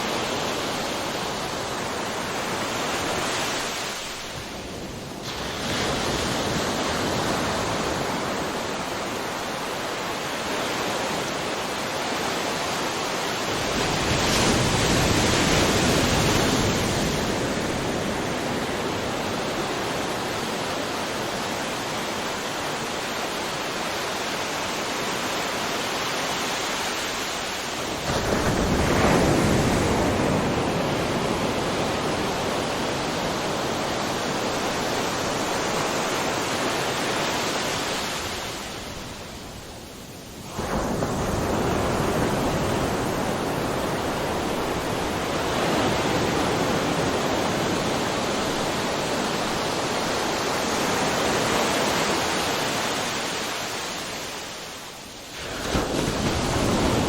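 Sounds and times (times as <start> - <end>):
ocean waves breaking: 0.0 - 39.6, 40.4 - 57.0.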